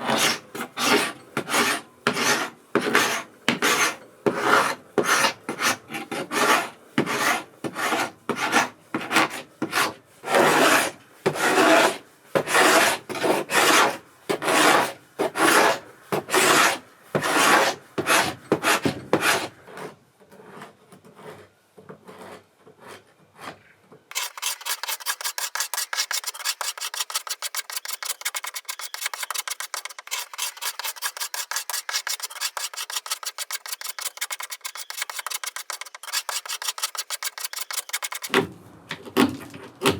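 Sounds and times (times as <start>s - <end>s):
hand sanding weathered wood: 0.0s - 19.4s, 24.1s - 38.3s.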